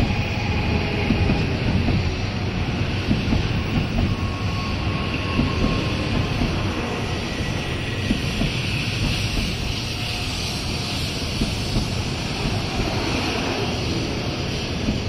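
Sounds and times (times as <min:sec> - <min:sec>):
high-speed train running: 0:00.0 - 0:15.0.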